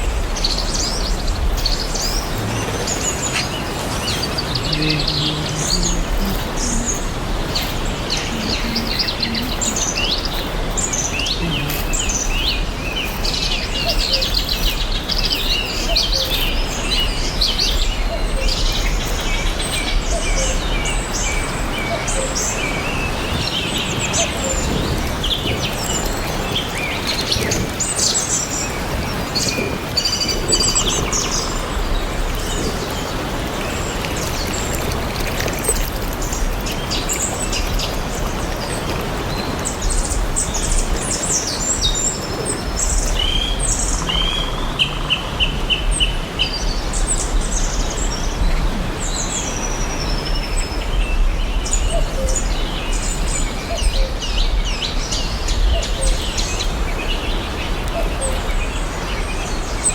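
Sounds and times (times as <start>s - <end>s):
birds chirping and calling: 0.0s - 48.0s.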